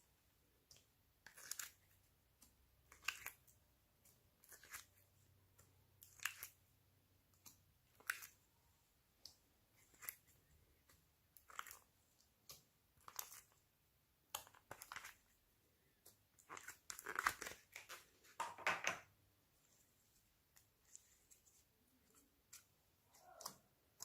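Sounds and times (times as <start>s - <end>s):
slime squelching and crackling: 0.6s - 18.1s, 22.0s - 24.0s.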